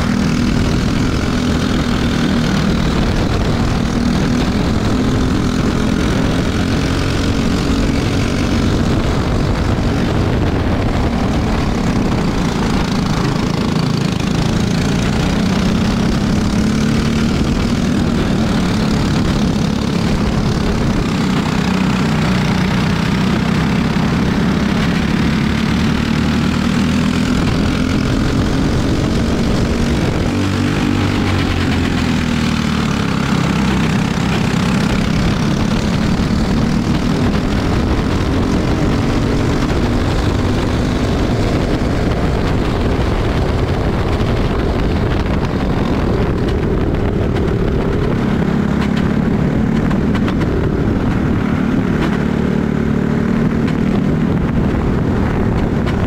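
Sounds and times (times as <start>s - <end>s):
go-kart engine running hard: 0.0s - 56.0s
wind: 0.0s - 56.0s.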